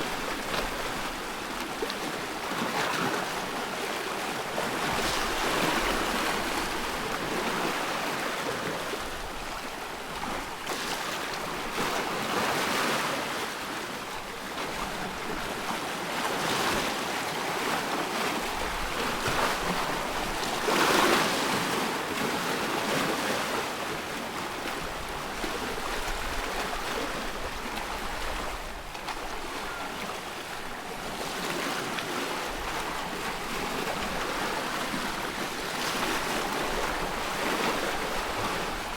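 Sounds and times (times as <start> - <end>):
small waves lapping: 0.0 - 38.9.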